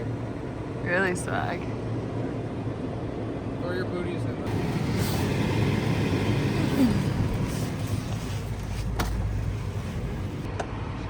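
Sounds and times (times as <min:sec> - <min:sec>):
car driving low rumble: 0:00.0 - 0:10.5.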